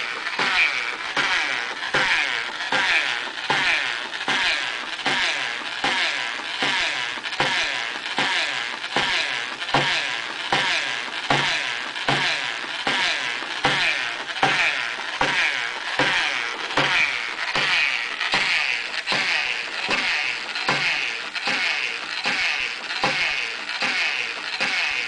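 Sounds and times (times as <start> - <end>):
pendulum arm knocking: 0.0 - 25.0
steady mechanical whir: 0.0 - 25.0.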